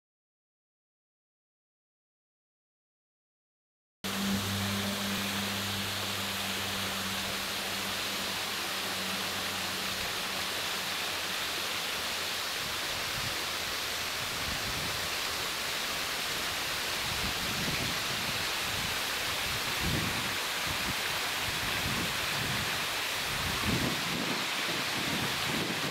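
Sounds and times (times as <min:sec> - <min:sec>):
waterfall rushing: 0:04.1 - 0:25.9.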